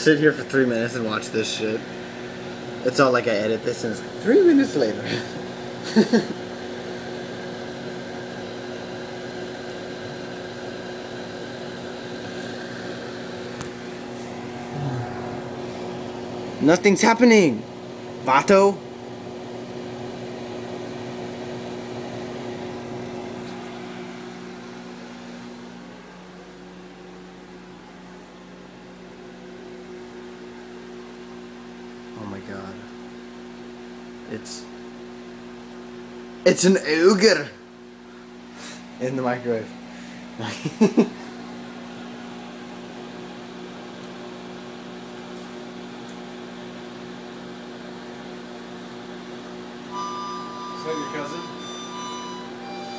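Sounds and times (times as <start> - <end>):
electrical hum: 0.0 - 52.9
microwave fan noise: 0.0 - 52.9.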